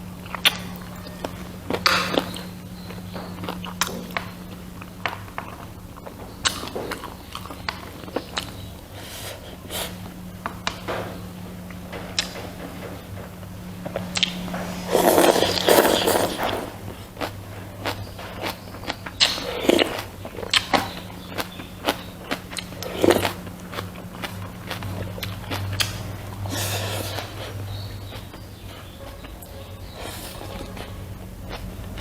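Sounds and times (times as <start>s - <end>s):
low steady hum: 0.0s - 32.0s
noisy bursts: 0.0s - 32.0s
chewing and mouth noises: 0.2s - 10.8s, 13.2s - 32.0s.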